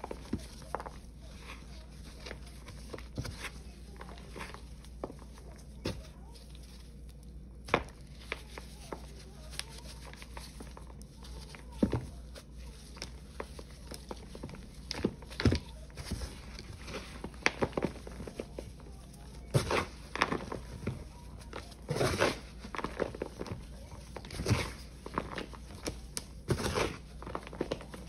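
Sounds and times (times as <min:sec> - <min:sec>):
paste balls crunching: 0:00.0 - 0:28.0.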